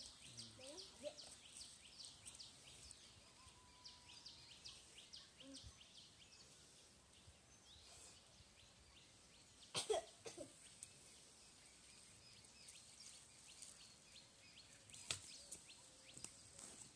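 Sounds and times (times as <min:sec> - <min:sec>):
faint outdoor ambience: 0:00.0 - 0:16.9
small birds chirping: 0:00.0 - 0:16.9.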